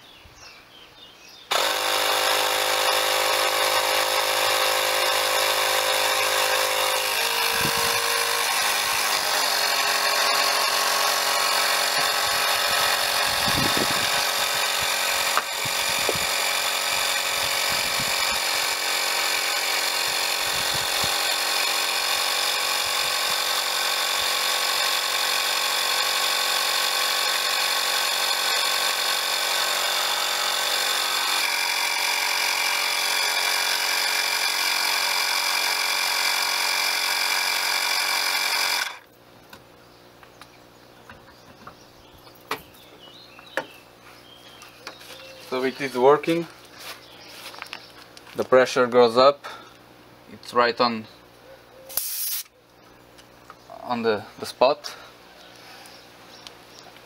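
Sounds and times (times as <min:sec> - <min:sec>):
air compressor buzzing whine: 0:01.5 - 0:49.8, 0:51.9 - 0:57.0.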